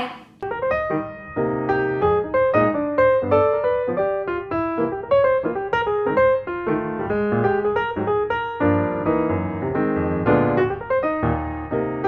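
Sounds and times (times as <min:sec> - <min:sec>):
piano music: 0:00.4 - 0:12.0.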